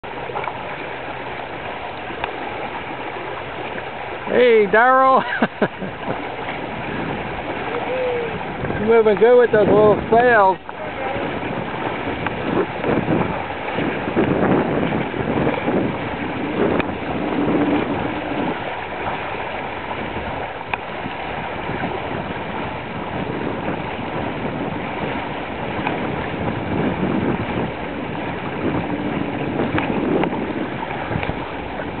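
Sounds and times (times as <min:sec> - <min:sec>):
water rushing and sloshing: 0:00.0 - 0:32.0
wind buffeting microphone: 0:00.0 - 0:32.0.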